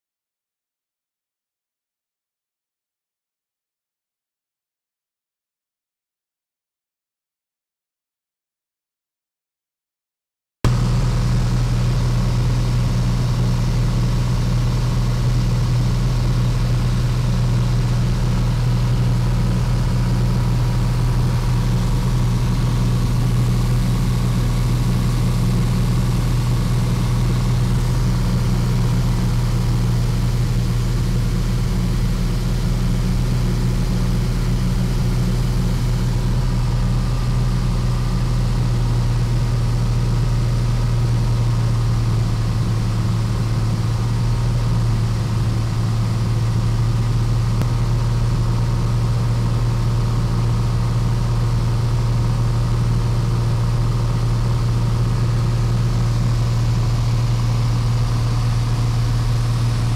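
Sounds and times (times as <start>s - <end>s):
propeller plane engine droning: 10.7s - 59.9s.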